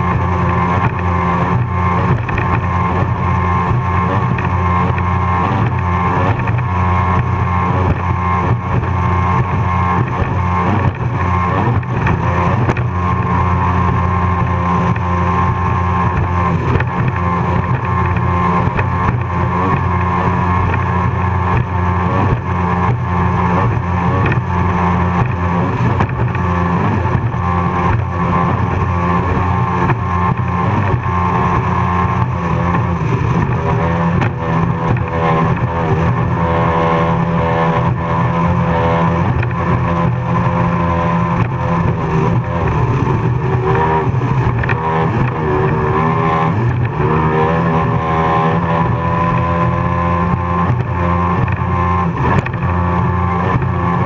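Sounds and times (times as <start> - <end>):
powerboat engines running hard: 0.0 - 54.0
wind and water noise: 0.0 - 54.0.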